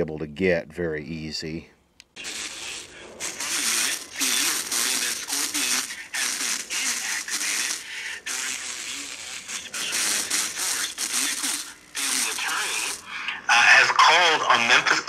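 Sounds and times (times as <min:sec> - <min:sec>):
distorted radio voice: 0:02.2 - 0:15.0
harsh speaker buzz: 0:02.2 - 0:15.0.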